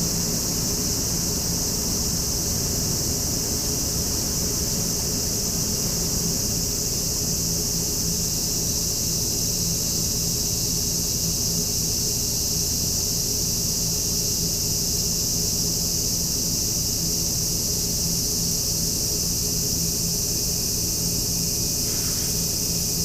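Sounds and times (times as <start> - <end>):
high-pitched hiss: 0.0 - 23.0.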